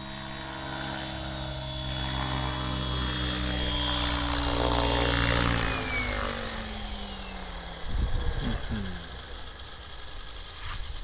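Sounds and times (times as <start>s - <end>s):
model helicopter rotor whirr: 0.0s - 11.0s.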